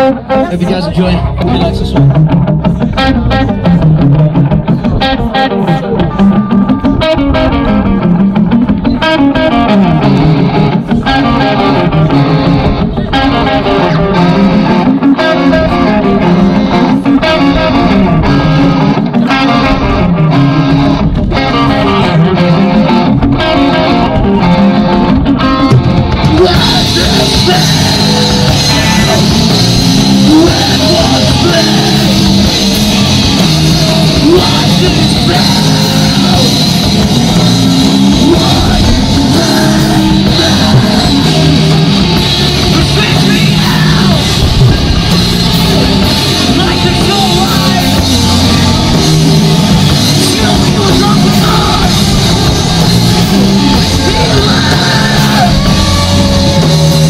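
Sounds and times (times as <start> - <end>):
hardcore band playing: 0.0 - 57.0.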